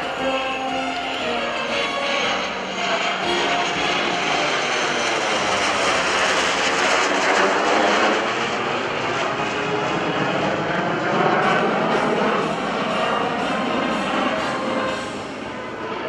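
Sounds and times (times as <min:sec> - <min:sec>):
aircraft flying past: 0:00.0 - 0:16.0.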